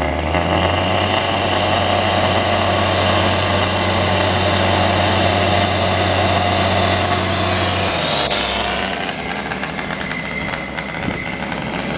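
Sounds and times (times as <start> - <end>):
air compressor engine running: 1.2 - 11.9.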